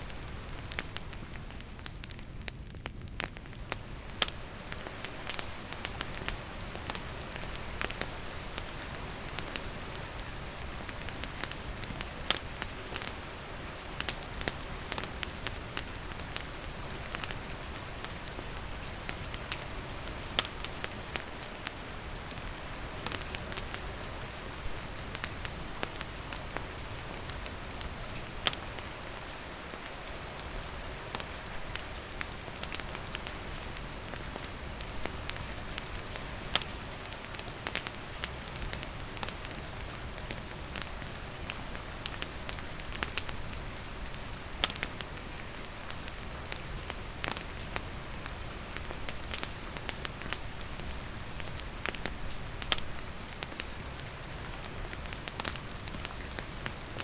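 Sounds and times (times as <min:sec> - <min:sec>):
campfire crackling and popping: 0:00.0 - 0:57.0
steady rain falling: 0:00.0 - 0:57.0.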